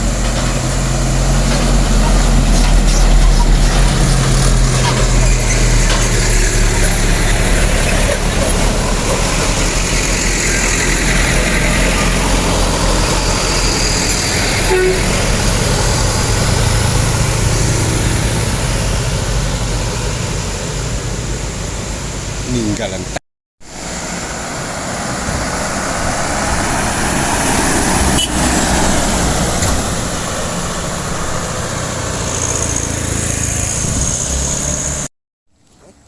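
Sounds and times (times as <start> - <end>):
heavy truck engine running: 0.0 - 22.7, 23.7 - 35.1
road noise: 0.0 - 35.1.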